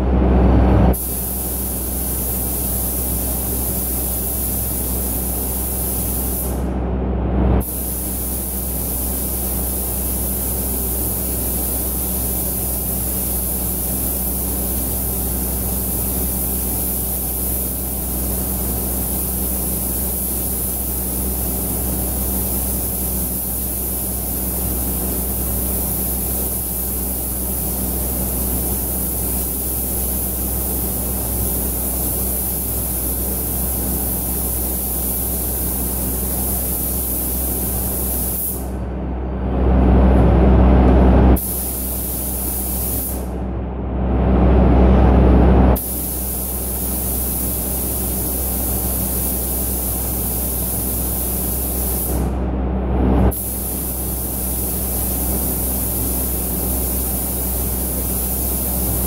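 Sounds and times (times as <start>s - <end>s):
extraction fans droning: 0.0s - 41.8s, 42.4s - 58.1s
paint spray gun hissing: 0.9s - 6.6s, 7.6s - 38.7s, 41.4s - 43.3s, 45.8s - 52.3s, 53.3s - 59.0s.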